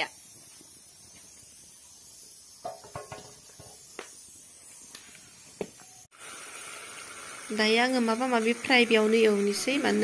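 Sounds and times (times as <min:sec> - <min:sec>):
wood fire hissing: 0:00.0 - 0:10.0.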